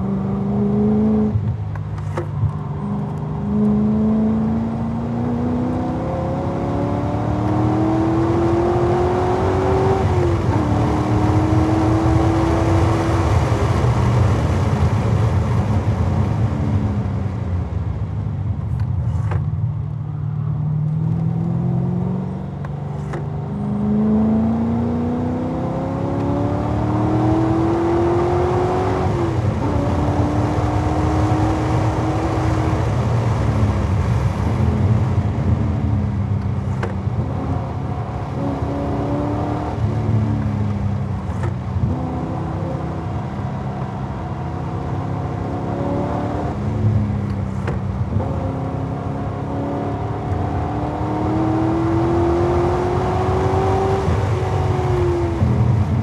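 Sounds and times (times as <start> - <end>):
car engine accelerating hard: 0.0 - 17.2, 20.8 - 56.0.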